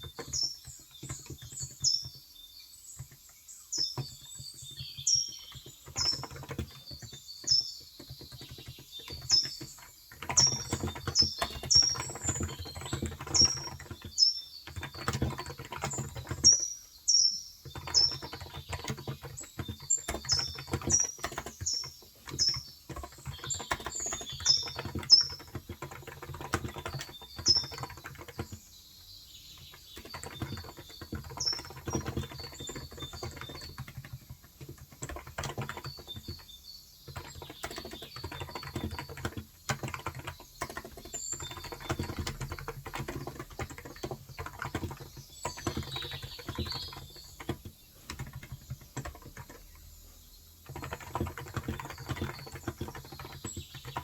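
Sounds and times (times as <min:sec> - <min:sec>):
birds chirping: 0:00.0 - 0:54.0
fast keyboard typing: 0:00.0 - 0:54.0.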